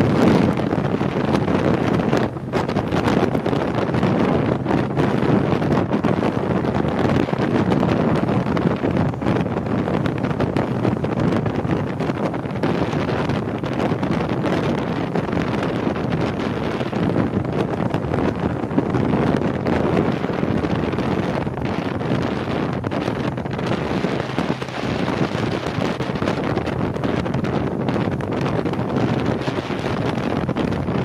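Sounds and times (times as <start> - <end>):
boat rushing over water: 0.0 - 31.0
wind buffeting microphone: 0.0 - 31.0.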